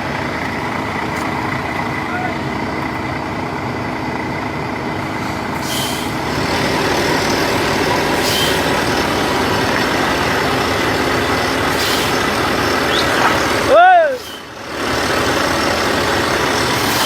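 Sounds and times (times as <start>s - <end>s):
heavy truck engine and road noise: 0.0s - 17.0s.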